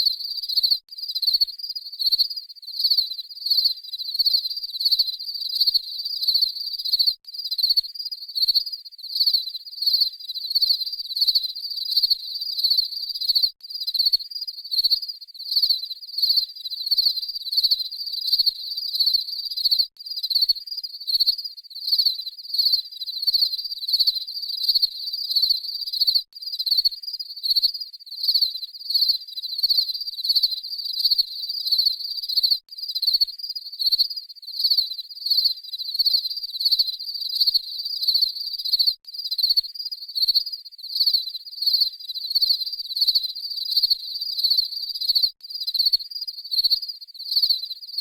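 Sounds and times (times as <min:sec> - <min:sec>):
cricket chirping: 0:00.0 - 0:48.0.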